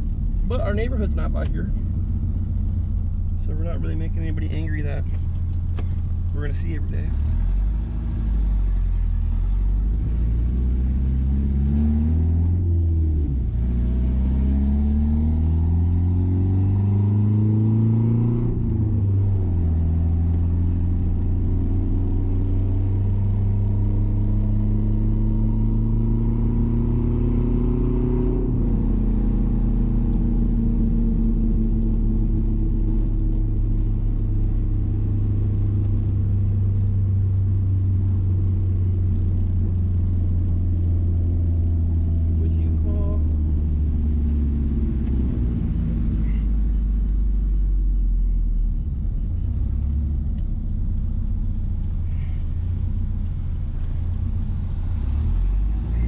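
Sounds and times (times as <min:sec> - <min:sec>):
pickup engine accelerating: 0:00.0 - 0:56.0.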